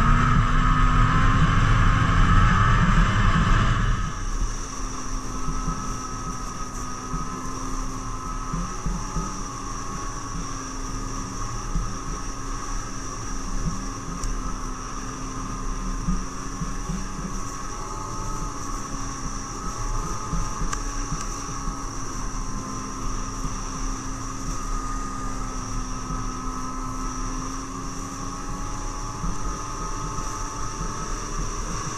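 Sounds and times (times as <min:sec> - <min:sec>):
snowmobile engine running: 0:00.0 - 0:31.9.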